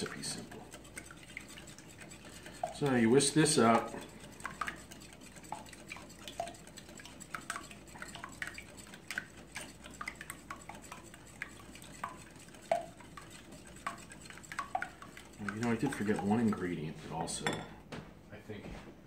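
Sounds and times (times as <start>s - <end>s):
whisk clicking against a glass bowl: 0.0s - 17.5s.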